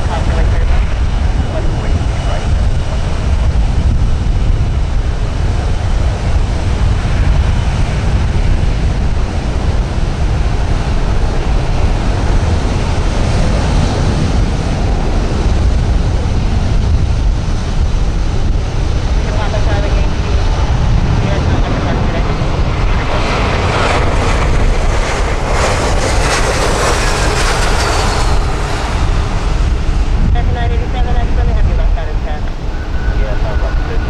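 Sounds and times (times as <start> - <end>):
jet engine rumble: 0.0 - 34.0
wind buffeting microphone: 0.0 - 34.0.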